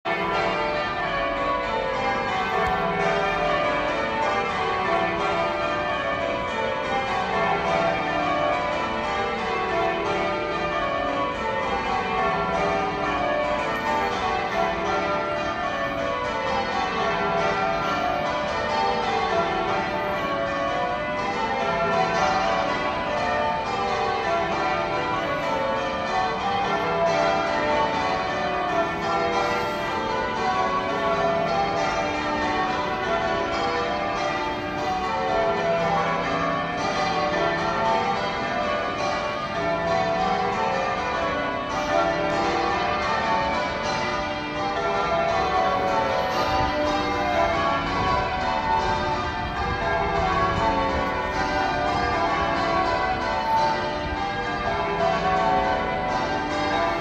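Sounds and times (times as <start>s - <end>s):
church bells change-ringing: 0.0s - 57.0s.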